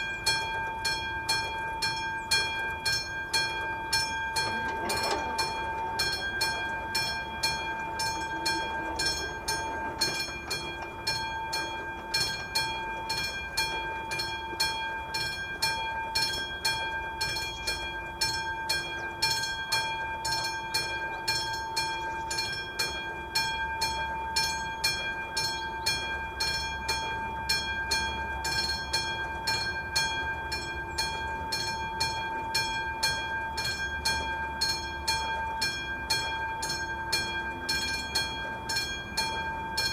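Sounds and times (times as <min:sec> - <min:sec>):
level crossing bell ringing: 0:00.0 - 0:39.9.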